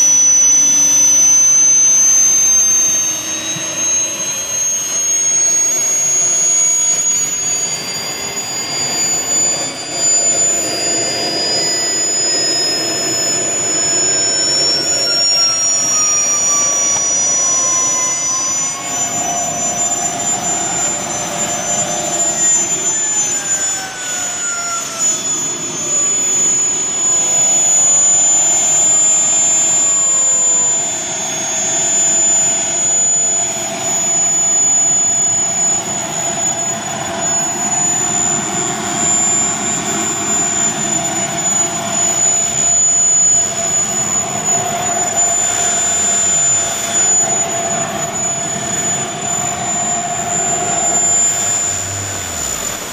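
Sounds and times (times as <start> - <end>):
jet turbine whine: 0.0 - 52.9.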